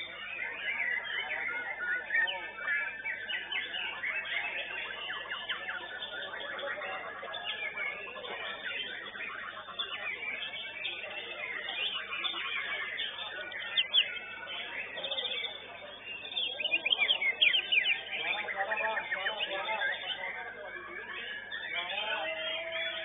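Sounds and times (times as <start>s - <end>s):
many birds singing: 0.0s - 23.0s.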